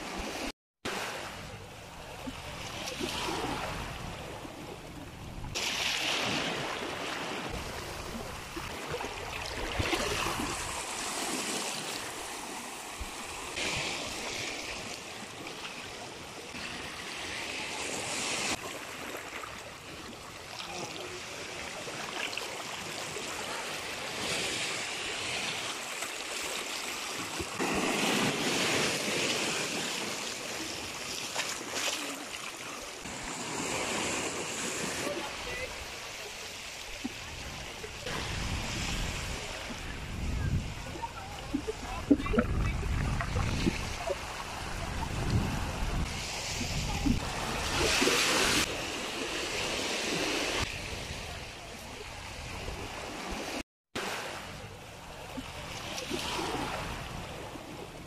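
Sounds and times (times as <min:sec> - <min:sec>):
waves washing over rocks: 0:00.0 - 0:58.0.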